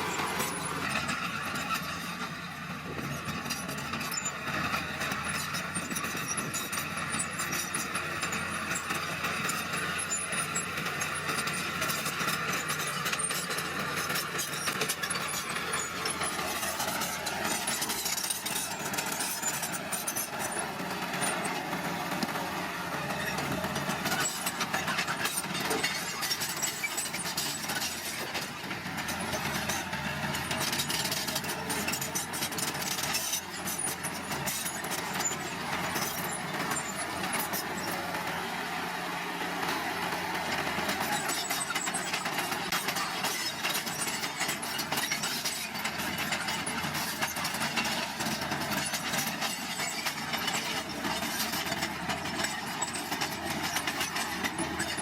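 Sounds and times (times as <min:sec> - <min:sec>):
blade pushing stone and soil: 0:00.0 - 0:38.5, 0:39.8 - 0:55.0
bulldozer diesel engine: 0:00.0 - 0:55.0.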